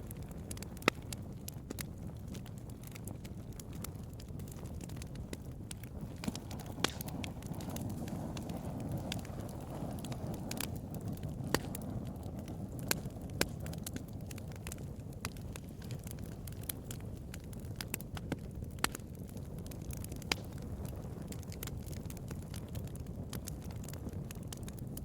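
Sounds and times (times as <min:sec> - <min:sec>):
fire pops: 0:00.0 - 0:25.0
wood fire crackling: 0:00.0 - 0:25.0.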